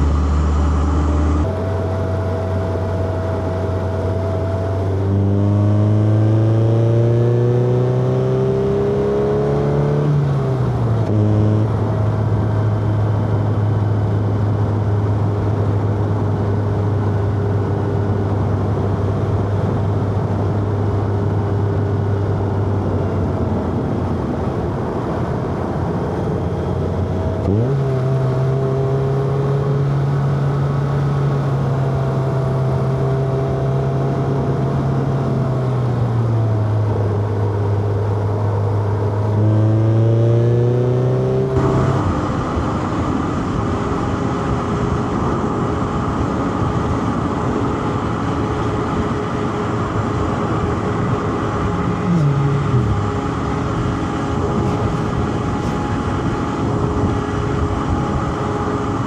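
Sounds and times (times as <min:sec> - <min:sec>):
car engine revving: 0:00.0 - 0:14.4, 0:23.6 - 0:44.9, 0:47.4 - 0:59.0
road and tyre noise: 0:00.0 - 0:59.0.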